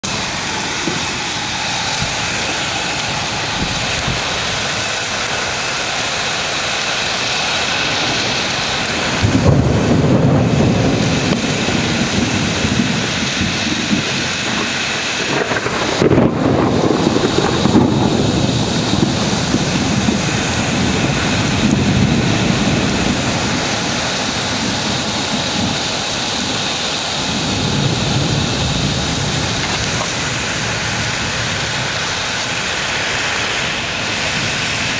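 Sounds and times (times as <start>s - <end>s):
rolling thunder: 0.0s - 5.0s, 7.7s - 26.6s, 27.2s - 32.3s
wind and rain rushing: 0.0s - 34.9s.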